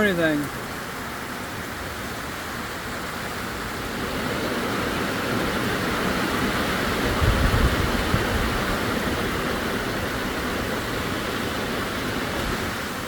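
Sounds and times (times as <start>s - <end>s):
heavy pouring rain: 0.0s - 13.0s.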